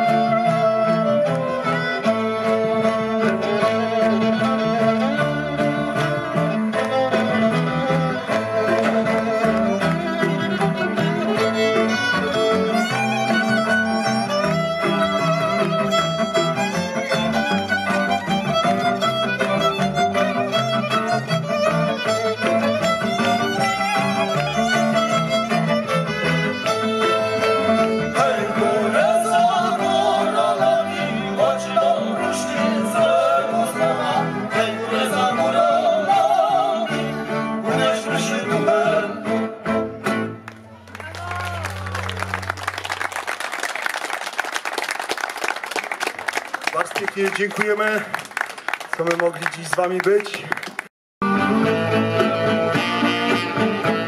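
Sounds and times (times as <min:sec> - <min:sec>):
fiddle melody: 0:00.0 - 0:43.6, 0:51.2 - 0:54.0
bowed bass: 0:00.0 - 0:44.0, 0:51.2 - 0:54.0.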